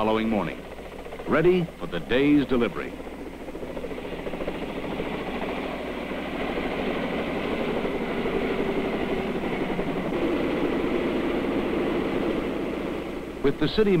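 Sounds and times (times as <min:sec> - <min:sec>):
helicopter engine and rotor: 0:00.0 - 0:14.0.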